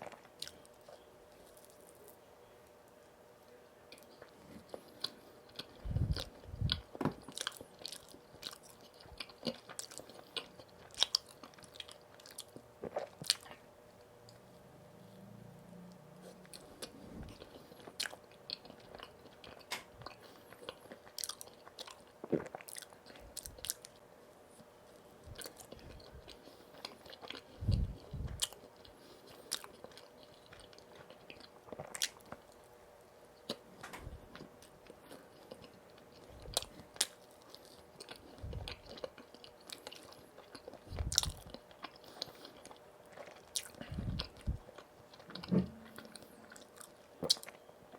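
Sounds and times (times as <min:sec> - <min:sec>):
chewing and biting: 0:03.9 - 0:13.6, 0:16.3 - 0:24.0, 0:24.9 - 0:32.6, 0:33.4 - 0:47.7.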